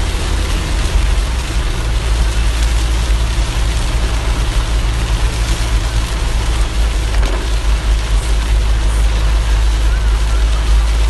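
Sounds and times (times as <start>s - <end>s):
car road rumble: 0.0s - 11.0s
rain hissing on car: 0.0s - 11.0s.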